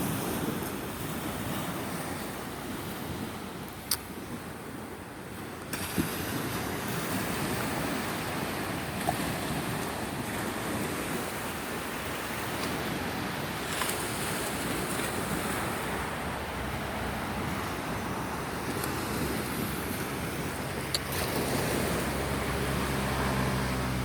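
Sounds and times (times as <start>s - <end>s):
sea surf washing onto beach: 0.0s - 24.0s
wind on microphone: 0.0s - 24.0s.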